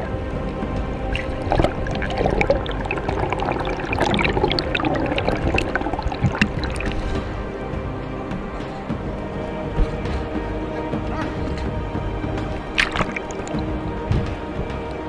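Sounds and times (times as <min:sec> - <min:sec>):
water sloshing and bubbling: 0:00.0 - 0:15.0.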